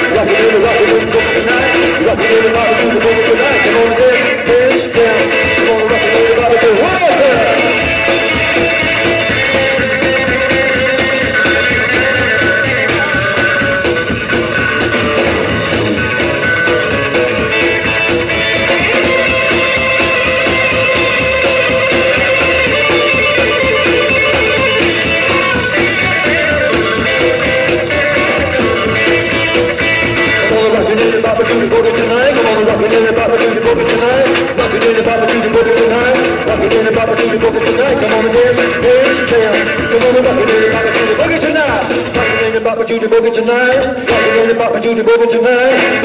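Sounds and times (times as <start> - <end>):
electric guitar lead line: 0.0 - 46.0
rockabilly band playing: 0.0 - 46.0.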